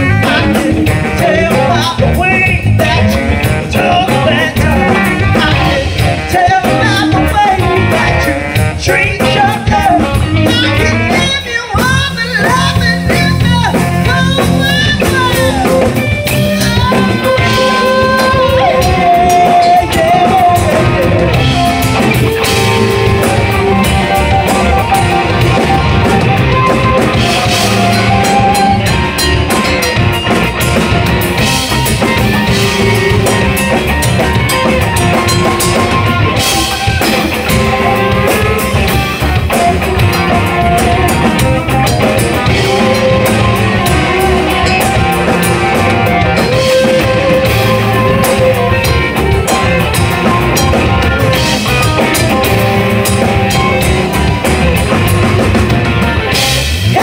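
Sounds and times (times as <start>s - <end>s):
drum kit: 0.0s - 57.0s
electric blues band playing: 0.0s - 57.0s
electric guitar: 0.0s - 57.0s.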